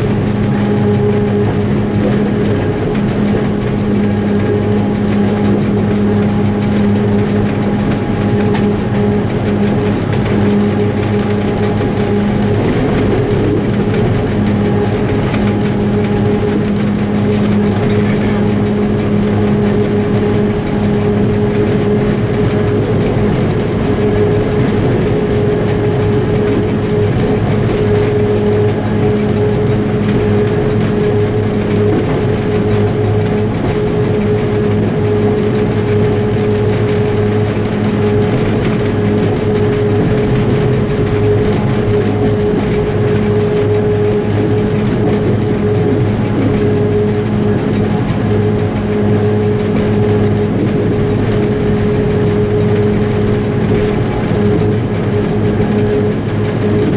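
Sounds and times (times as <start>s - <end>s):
diesel engine droning: 0.0s - 56.9s
train running noise: 0.0s - 56.9s.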